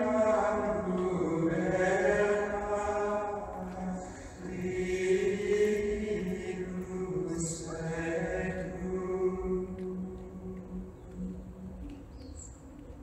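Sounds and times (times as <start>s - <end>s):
choir singing long notes: 0.0s - 12.1s
steady low drone: 0.0s - 13.0s.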